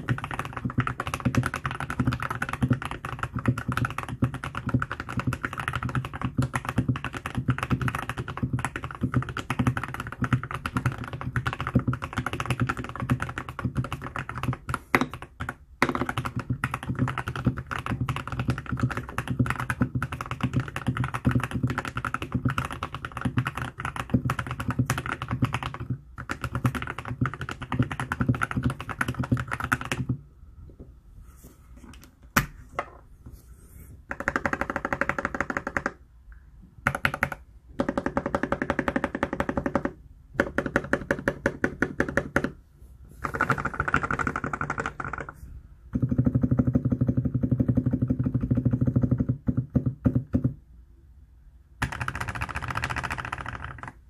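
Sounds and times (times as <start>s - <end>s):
fast typing on keyboard: 0.0s - 30.2s, 34.1s - 36.0s, 36.8s - 42.6s, 43.2s - 50.6s, 51.8s - 54.0s.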